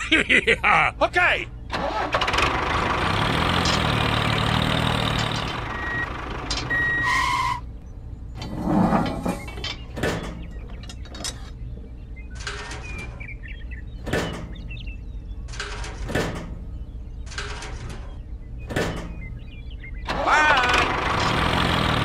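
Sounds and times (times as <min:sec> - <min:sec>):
birds chirping faintly: 0:00.0 - 0:01.8, 0:02.5 - 0:22.0.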